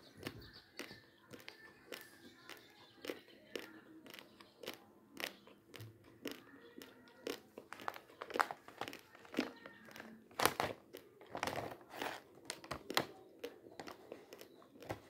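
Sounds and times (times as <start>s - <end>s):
dry rice crunching in mouth: 0.2s - 15.0s.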